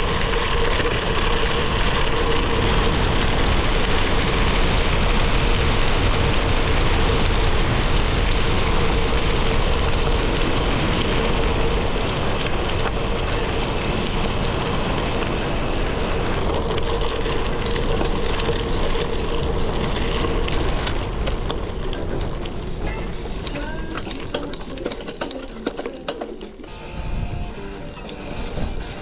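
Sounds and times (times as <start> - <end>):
wind buffeting microphone: 0.0 - 24.7, 26.9 - 29.0
bike tyres rolling over gravel: 0.0 - 29.0.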